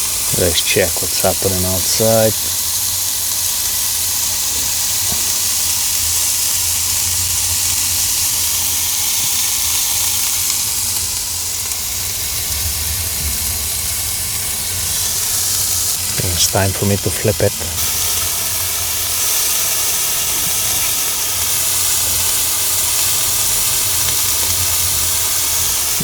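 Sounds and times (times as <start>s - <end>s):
chicken sizzling in a pan: 0.0s - 26.0s.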